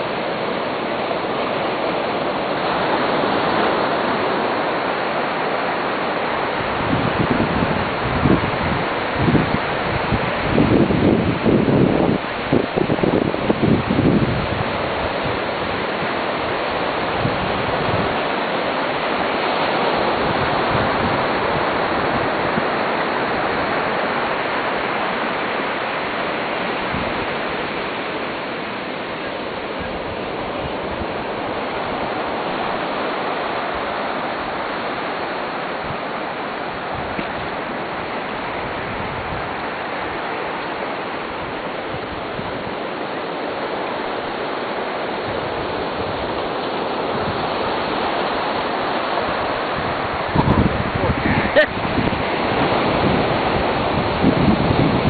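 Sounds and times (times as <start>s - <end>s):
small waves on a sandy beach: 0.0s - 55.0s.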